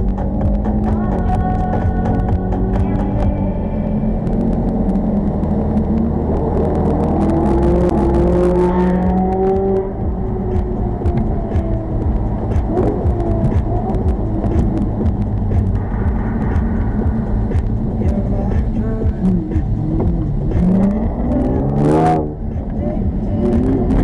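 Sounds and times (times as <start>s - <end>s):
car engine accelerating: 0.0s - 24.0s
road noise: 0.0s - 24.0s.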